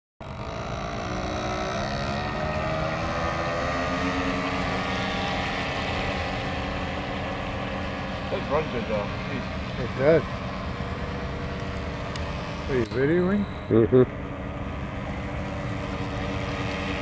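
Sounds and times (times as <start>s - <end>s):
model boat motor running: 0.2s - 17.0s.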